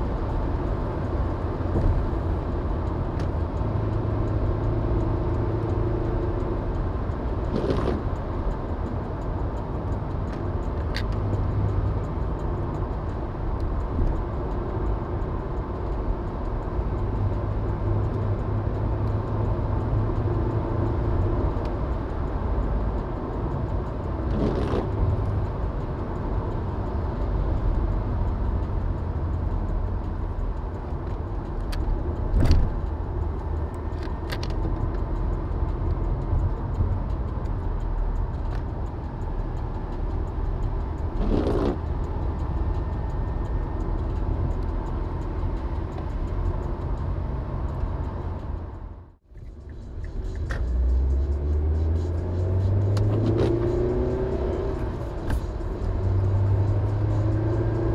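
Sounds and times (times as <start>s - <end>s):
car engine and tyres rumbling: 0.0s - 57.9s.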